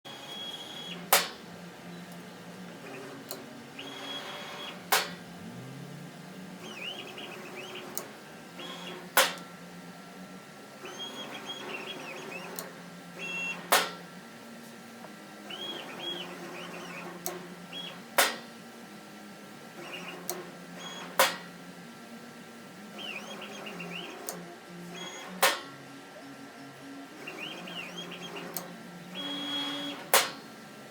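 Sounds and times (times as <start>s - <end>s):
stepper motors whining: 0.1s - 9.3s, 10.2s - 13.9s, 15.3s - 18.2s, 19.7s - 21.3s, 22.6s - 30.9s.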